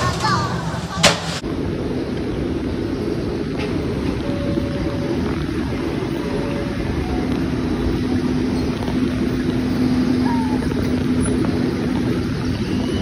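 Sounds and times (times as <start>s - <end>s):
ride car and machinery rumble: 0.0s - 13.0s
steady mechanical hum: 0.0s - 13.0s.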